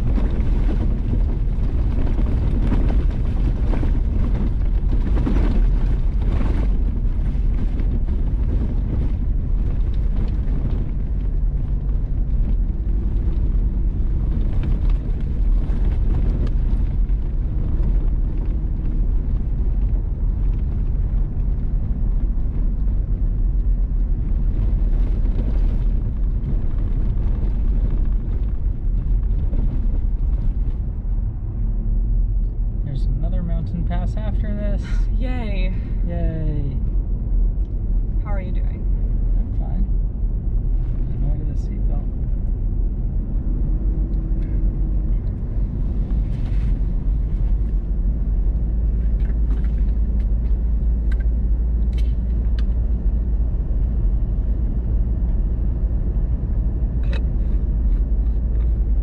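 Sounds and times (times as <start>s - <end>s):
gravel crackling against vehicle: 0.0s - 59.0s
tyres rumbling on gravel: 0.0s - 59.0s.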